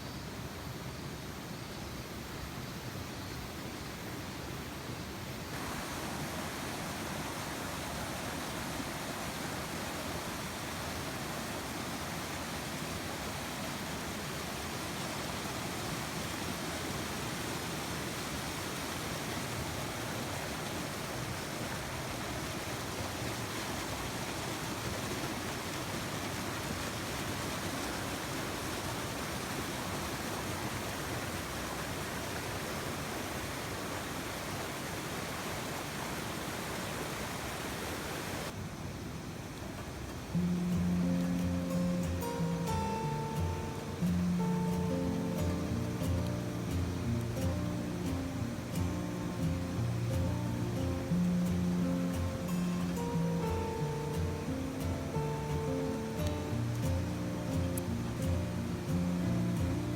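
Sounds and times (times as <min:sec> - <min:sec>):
stream rushing over rapids: 0:00.0 - 0:59.9.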